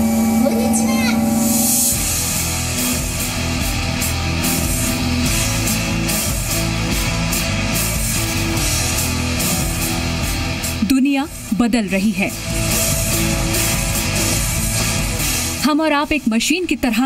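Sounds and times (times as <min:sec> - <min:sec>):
rock music with electric guitar: 0:00.0 - 0:16.2
steady drum beat: 0:01.8 - 0:16.2.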